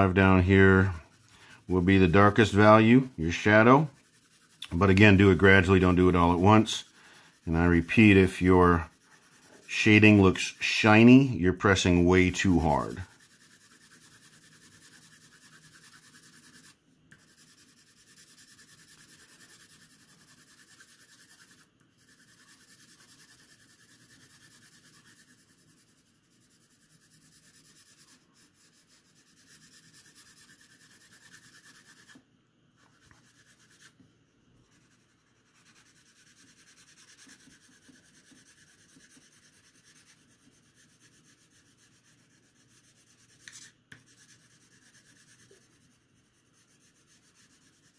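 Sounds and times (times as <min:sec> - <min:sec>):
pencil scratching on paper: 0:00.0 - 0:32.2, 0:32.8 - 0:34.0, 0:34.6 - 0:47.9.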